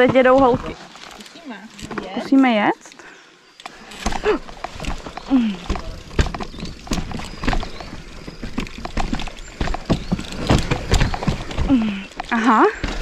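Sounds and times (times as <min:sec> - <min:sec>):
bike rattling over rocks: 0:00.0 - 0:02.7, 0:03.7 - 0:13.0.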